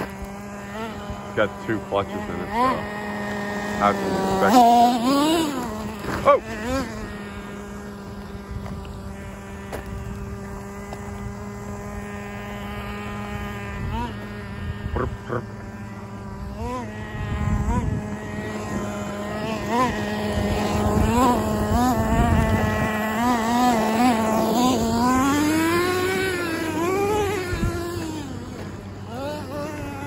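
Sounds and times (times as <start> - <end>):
small nitro engine revving: 0.0 - 30.0.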